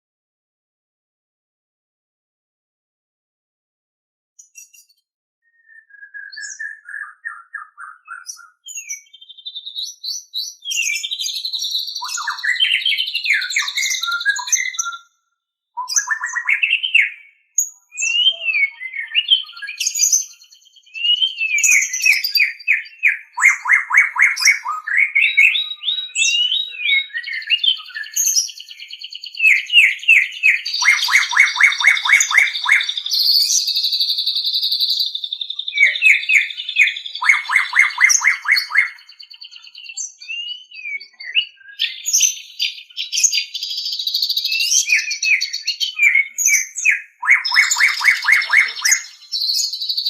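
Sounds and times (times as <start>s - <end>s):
bird singing varied whistles: 4.4s - 15.2s, 15.8s - 50.0s.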